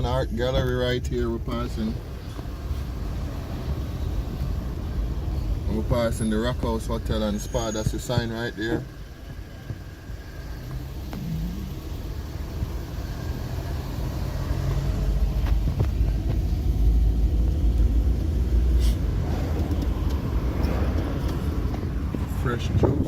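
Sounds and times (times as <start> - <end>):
car passing: 1.2 - 23.0.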